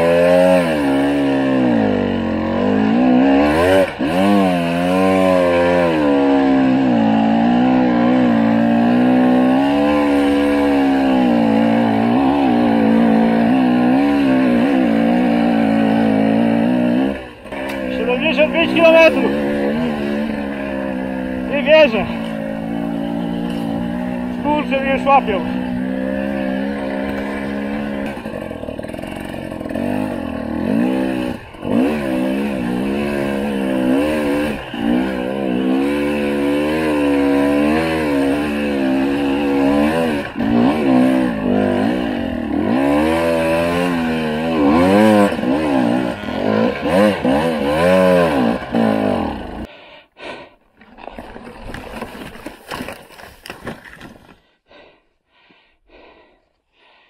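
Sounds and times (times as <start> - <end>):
motorcycle engine revving: 0.0 - 49.7.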